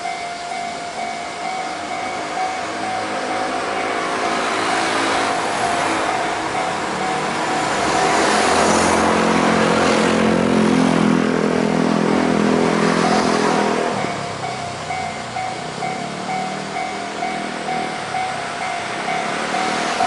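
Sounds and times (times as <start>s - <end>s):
level crossing warning bell: 0.0s - 10.4s, 11.1s - 20.0s
train passing: 0.0s - 20.0s.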